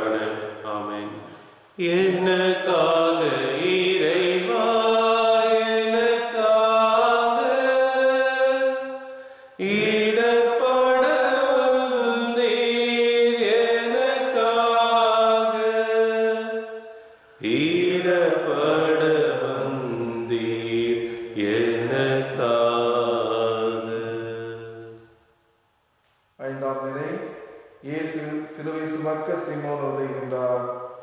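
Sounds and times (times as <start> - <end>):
hymn singing: 0.0 - 25.2, 26.4 - 31.0.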